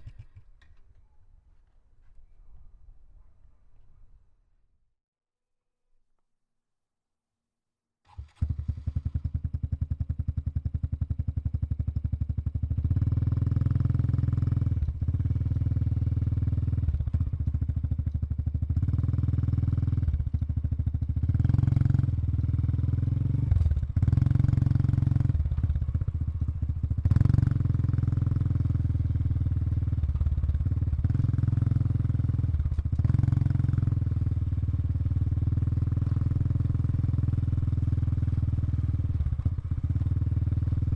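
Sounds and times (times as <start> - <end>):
motorcycle engine starting and idling: 0.0 - 2.2, 8.1 - 40.9.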